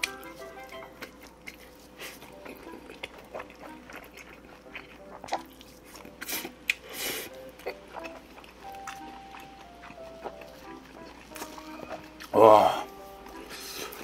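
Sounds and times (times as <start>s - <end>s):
chewing and mouth smacking: 0.0s - 12.4s.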